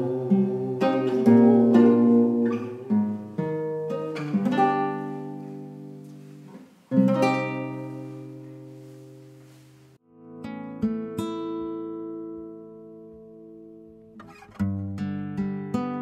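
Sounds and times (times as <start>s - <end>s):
classical guitar strumming chords: 0.0s - 16.0s.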